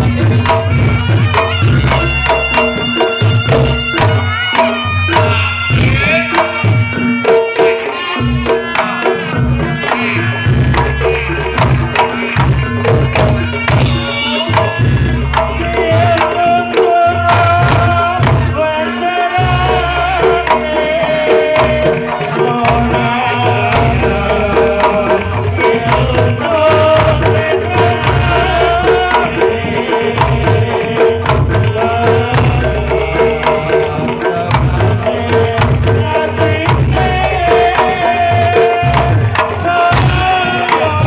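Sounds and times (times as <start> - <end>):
deep drum beats: 0.0 - 41.0
hand drum strokes: 0.0 - 41.0.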